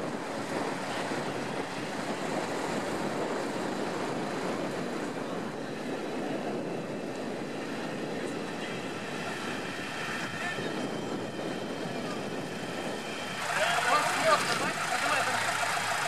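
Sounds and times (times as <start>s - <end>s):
steady breeze blowing: 0.0s - 16.0s.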